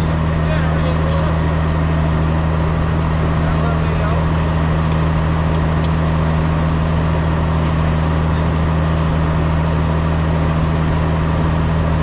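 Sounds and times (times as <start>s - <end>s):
heavy machinery engine drone: 0.0s - 12.0s.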